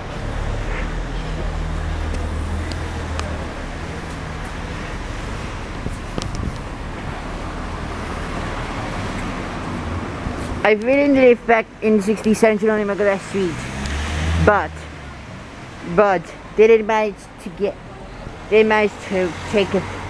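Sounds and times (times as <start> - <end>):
road noise: 0.0 - 20.0
vehicle engine humming: 0.0 - 20.0.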